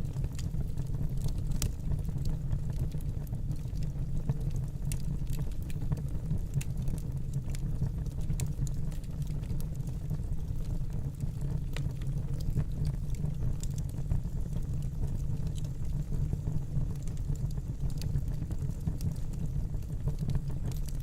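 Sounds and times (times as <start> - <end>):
burning wood crackling and popping: 0.0 - 21.0
low rumble of flames: 0.0 - 21.0.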